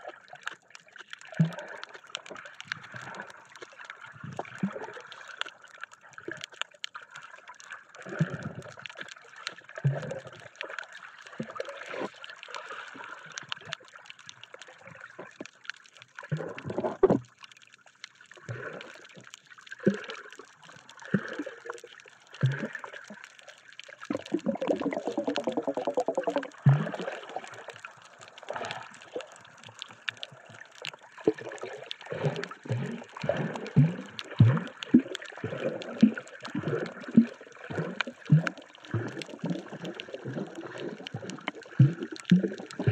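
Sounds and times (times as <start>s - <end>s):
underwater gurgling and sloshing: 0.0s - 42.9s.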